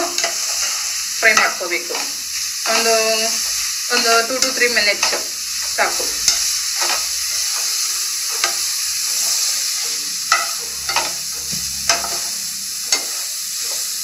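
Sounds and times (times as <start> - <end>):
carrot sizzling in a pan: 0.0 - 14.0
wooden spatula scraping a pan: 0.0 - 14.0.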